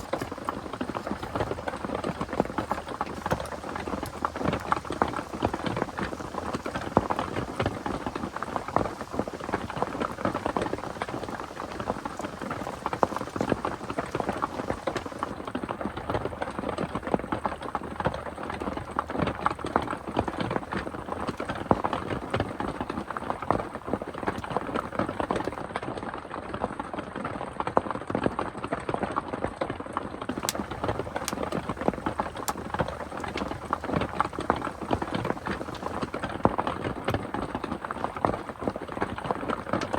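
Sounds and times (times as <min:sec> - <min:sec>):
heavy rain: 0:00.0 - 0:25.6, 0:30.3 - 0:39.9.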